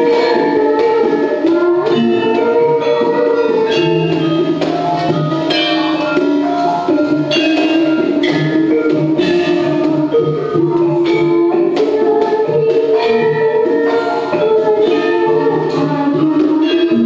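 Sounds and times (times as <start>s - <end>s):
bronze metallophones ringing: 0.0s - 17.0s
girl singing through loudspeaker: 0.0s - 17.0s.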